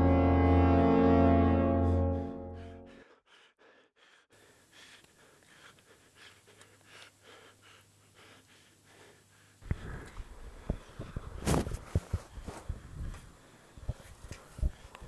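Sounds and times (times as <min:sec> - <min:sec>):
hissy breathing: 0:02.1 - 0:15.0.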